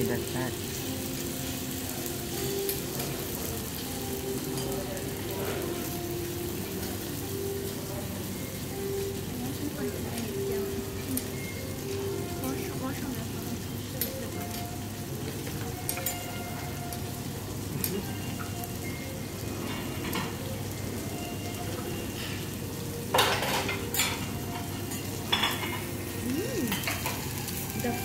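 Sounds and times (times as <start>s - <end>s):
steaks sizzling on a griddle: 0.0s - 28.0s.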